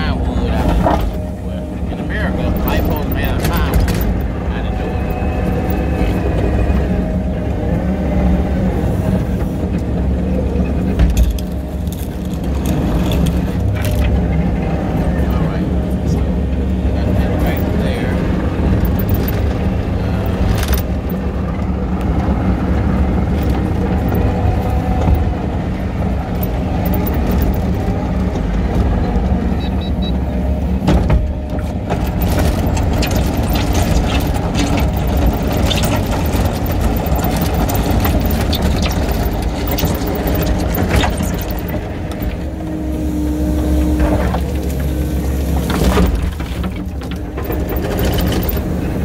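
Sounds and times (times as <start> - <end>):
diesel engine running: 0.0 - 49.0
machine knocks and clanks: 2.0 - 6.8, 10.6 - 14.7, 16.5 - 30.1, 30.7 - 42.9, 44.0 - 49.0.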